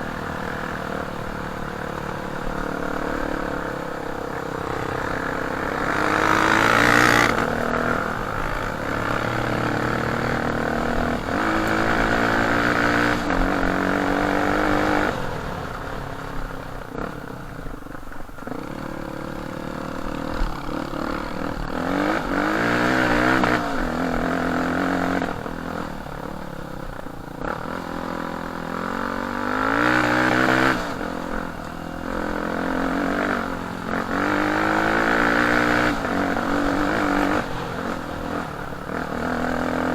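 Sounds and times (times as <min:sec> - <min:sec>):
dirt bike engine revving: 0:00.0 - 0:17.5, 0:18.4 - 0:39.9.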